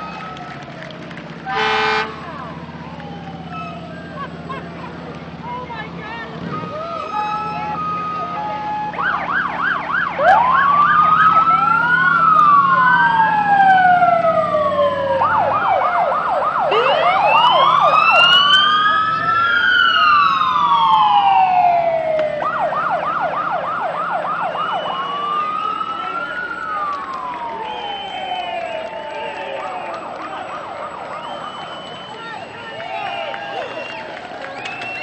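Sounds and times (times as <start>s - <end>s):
fire engine siren yelp and wail: 0.0s - 35.0s.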